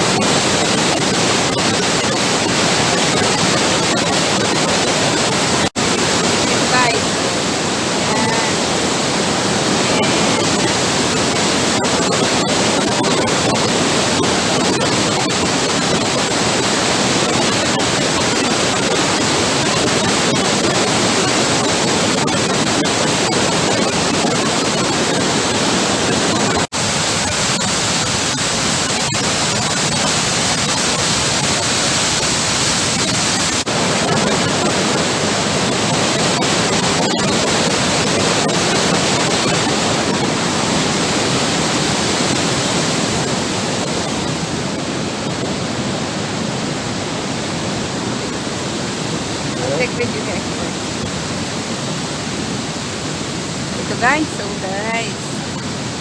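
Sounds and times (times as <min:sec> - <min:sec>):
waterfall rushing: 0:00.0 - 0:22.6, 0:33.5 - 0:56.0.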